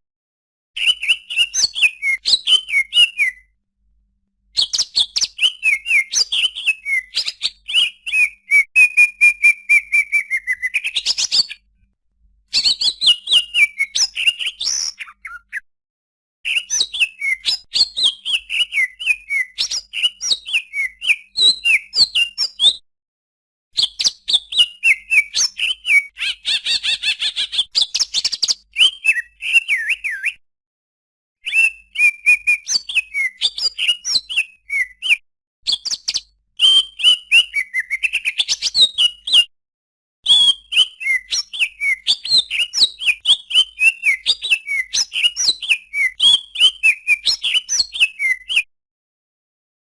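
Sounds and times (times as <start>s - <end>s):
bird singing whistled notes: 0.8s - 3.6s, 4.5s - 11.7s, 12.5s - 15.6s, 16.5s - 22.8s, 23.8s - 30.4s, 31.4s - 39.5s, 40.2s - 48.7s.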